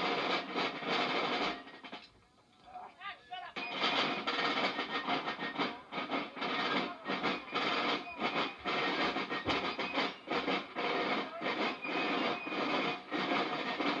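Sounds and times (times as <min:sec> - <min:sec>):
field drums snare rolls: 0:00.0 - 0:14.0.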